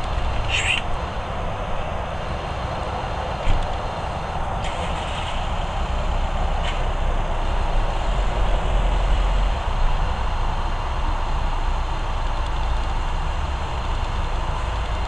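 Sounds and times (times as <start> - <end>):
low background rumble and hiss: 0.0 - 15.0.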